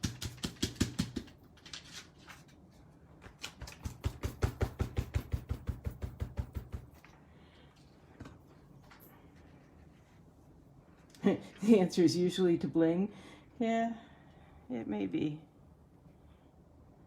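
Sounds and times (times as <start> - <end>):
low steady hum: 1.3 - 17.0.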